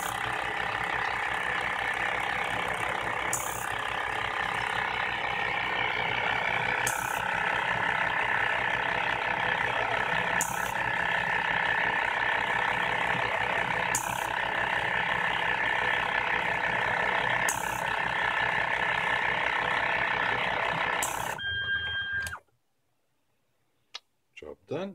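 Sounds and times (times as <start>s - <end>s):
seeder machine mechanical noise: 0.0s - 22.4s.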